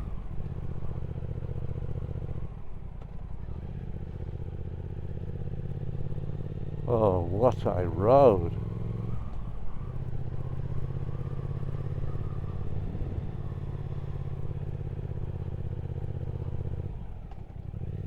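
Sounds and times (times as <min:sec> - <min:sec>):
motorcycle engine running: 0:00.1 - 0:18.0.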